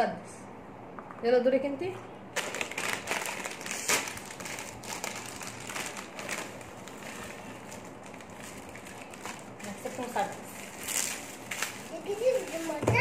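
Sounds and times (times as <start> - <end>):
plastic snack bag crinkling: 2.3 - 13.0.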